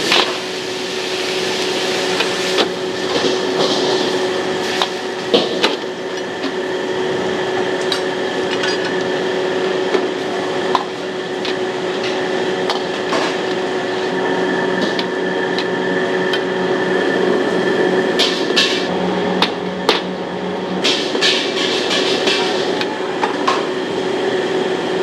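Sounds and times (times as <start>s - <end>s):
wok burner rushing hum: 0.0s - 25.0s.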